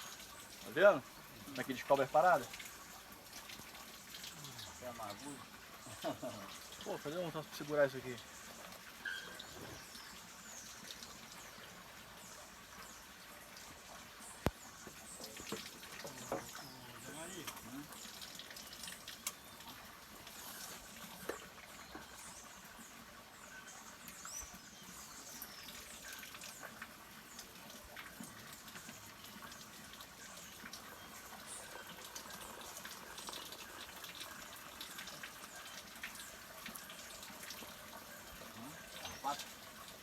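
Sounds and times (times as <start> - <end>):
water trickling and splashing: 0.0 - 40.0.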